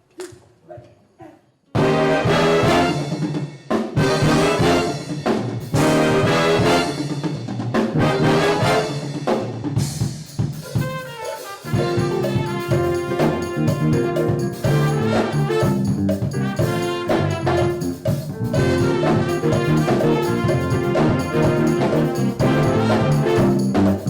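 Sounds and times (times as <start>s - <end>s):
brass chords: 1.8s - 9.5s, 10.7s - 24.0s
drum kit: 1.8s - 24.0s.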